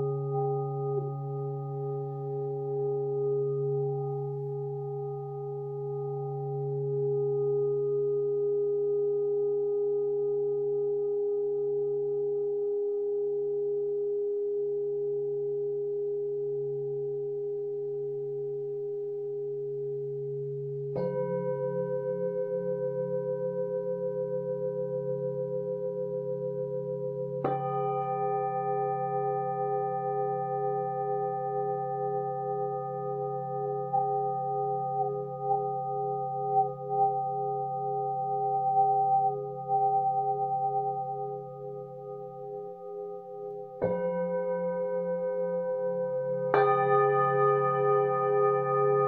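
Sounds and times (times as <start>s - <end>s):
singing bowls ringing: 0.0s - 13.7s, 15.1s - 49.0s.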